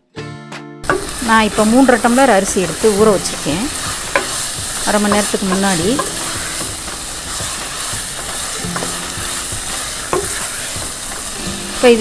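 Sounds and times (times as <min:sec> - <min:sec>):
food sizzling in oil: 0:00.8 - 0:12.0
spoon stirring and scraping: 0:02.2 - 0:12.0.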